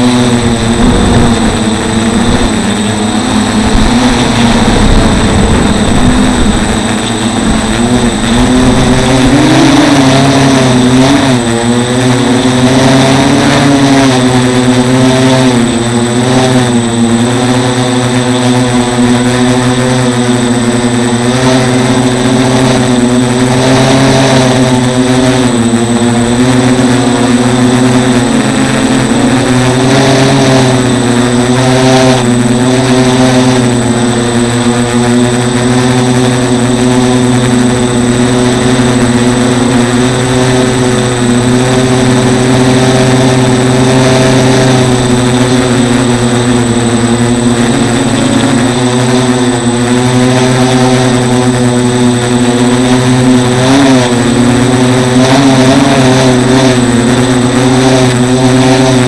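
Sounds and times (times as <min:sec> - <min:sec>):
drone motors whirring: 0:00.0 - 0:59.0.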